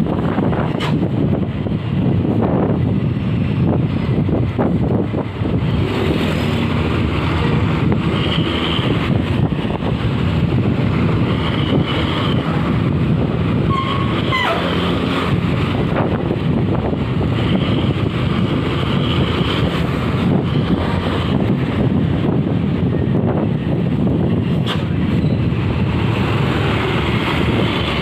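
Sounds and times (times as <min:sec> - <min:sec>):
vehicle engine and road noise: 0:00.0 - 0:28.0
wind buffeting microphone: 0:00.0 - 0:28.0.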